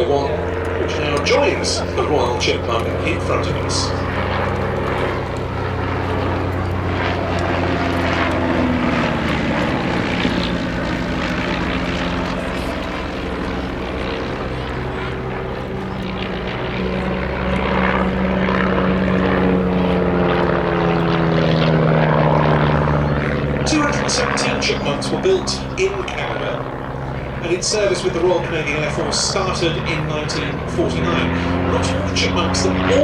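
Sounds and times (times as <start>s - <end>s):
propeller planes droning: 0.0s - 33.0s.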